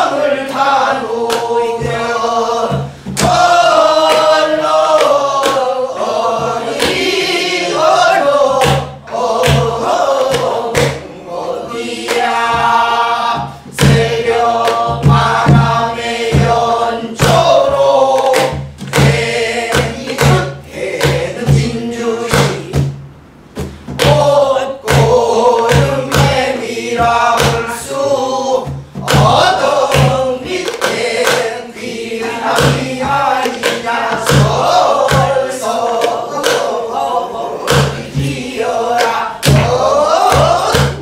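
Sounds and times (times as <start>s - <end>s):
barrel drum strokes: 0.0s - 36.7s
group singing in unison: 0.0s - 41.0s.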